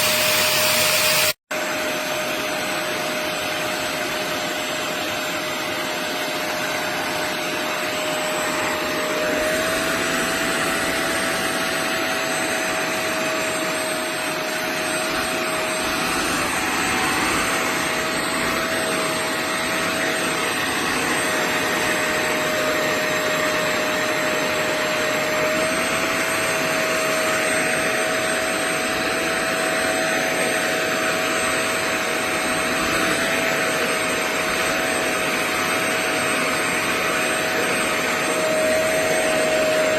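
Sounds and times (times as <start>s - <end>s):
carpet cleaner suction and motor whine: 0.0s - 39.9s.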